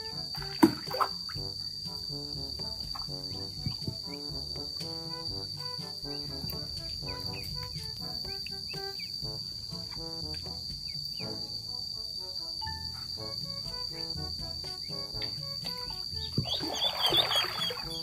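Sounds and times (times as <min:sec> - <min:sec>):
background music with bass line: 0:00.0 - 0:11.7, 0:12.8 - 0:18.0
high-pitched insect trill: 0:00.0 - 0:18.0.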